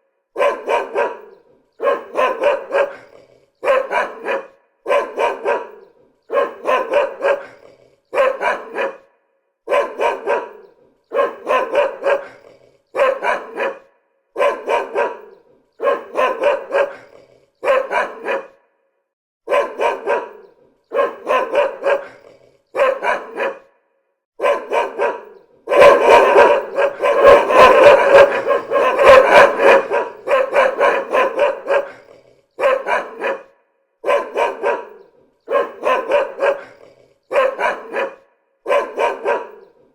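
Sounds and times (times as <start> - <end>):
dog barking: 0.1 - 39.9.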